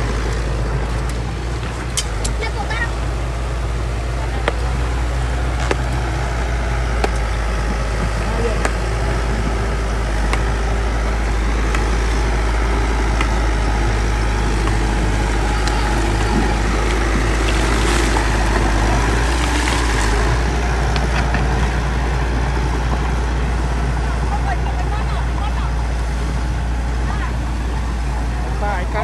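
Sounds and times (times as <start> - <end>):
diesel engine rumbling under load: 0.0 - 29.0.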